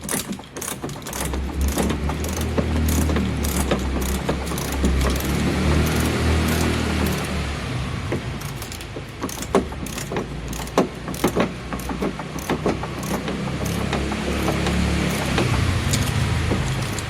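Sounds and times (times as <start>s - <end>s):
hand tools clicking on metal: 0.0s - 17.0s.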